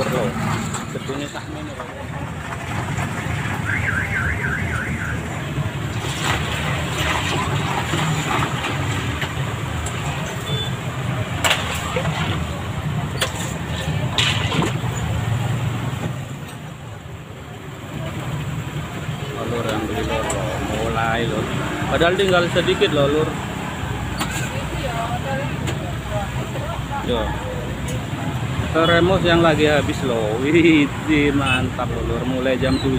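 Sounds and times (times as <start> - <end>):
street traffic rumble: 0.0 - 32.9.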